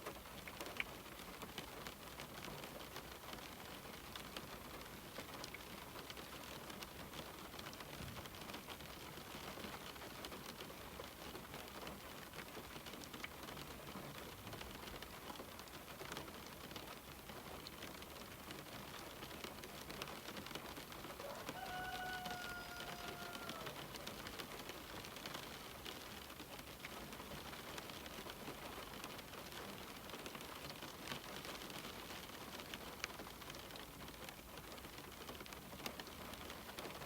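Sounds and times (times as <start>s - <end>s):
rain on a window pane: 0.0s - 37.0s.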